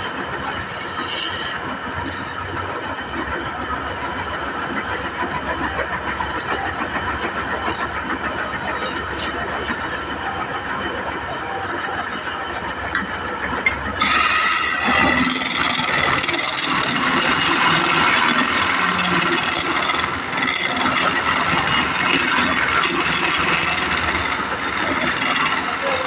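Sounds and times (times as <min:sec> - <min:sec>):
woodworking machine running: 0:00.0 - 0:26.0.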